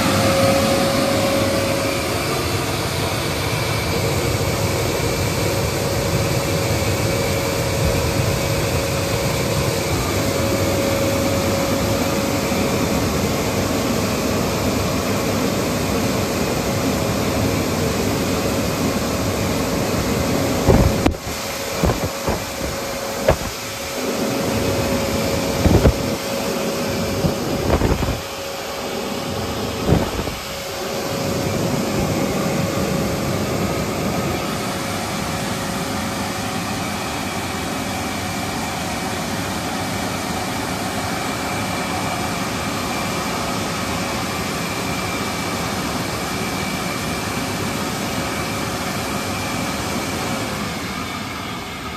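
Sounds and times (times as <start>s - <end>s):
car wash air dryers blowing: 0.0s - 51.9s.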